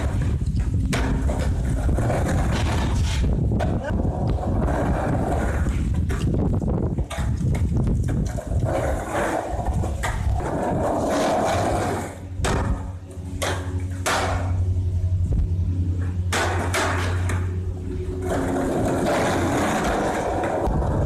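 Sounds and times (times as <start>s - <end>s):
skateboard clacking: 0.0s - 14.6s, 16.3s - 21.0s
skateboard wheels rumbling on concrete: 0.0s - 14.6s, 15.2s - 21.0s.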